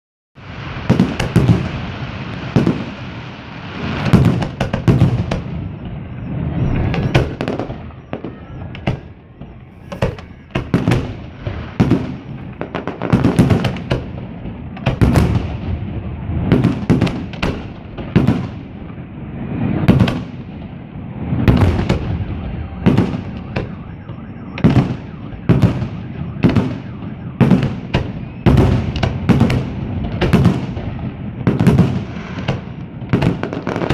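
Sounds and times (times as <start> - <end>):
fireworks bangs: 0.4 - 33.9.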